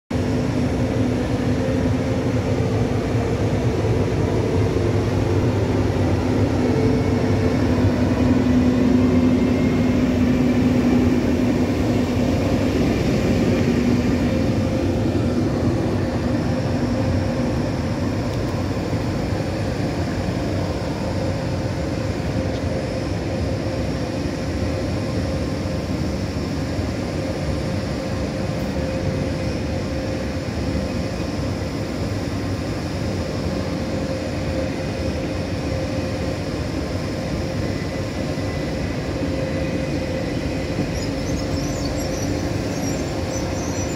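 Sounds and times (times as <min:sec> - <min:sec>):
electric locomotive humming: 0:00.1 - 0:43.9.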